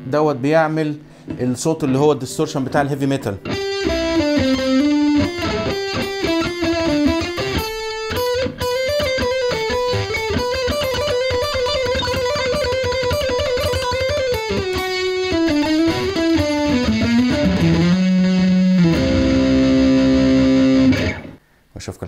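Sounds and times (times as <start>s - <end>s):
distorted electric guitar: 3.3s - 21.4s.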